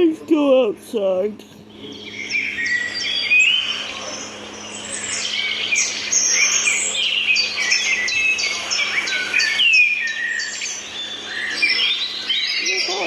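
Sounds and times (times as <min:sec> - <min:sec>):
birds chirping and whistling: 0:01.6 - 0:13.0.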